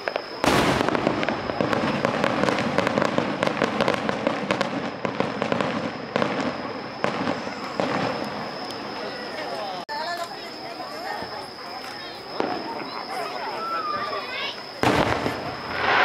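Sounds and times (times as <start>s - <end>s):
fireworks booming: 0.0s - 9.6s, 12.3s - 16.0s
fireworks bangs and crackling: 0.0s - 16.0s.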